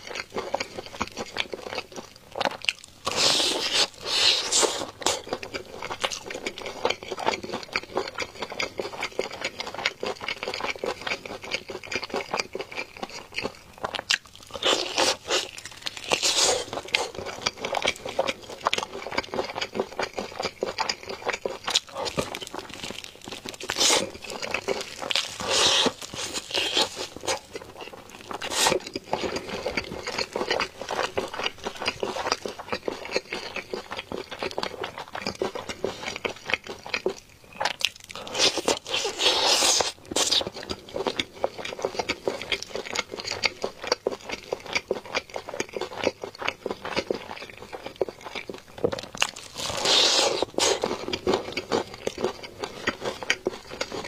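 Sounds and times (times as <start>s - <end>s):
crunching fried chicken: 0.0s - 54.0s.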